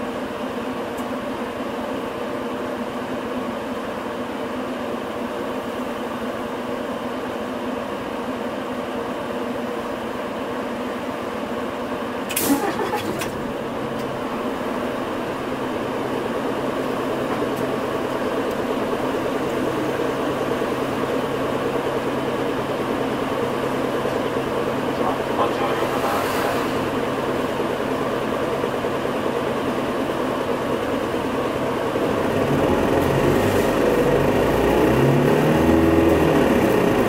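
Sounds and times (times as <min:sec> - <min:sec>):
bus diesel engine droning: 0:00.0 - 0:37.0.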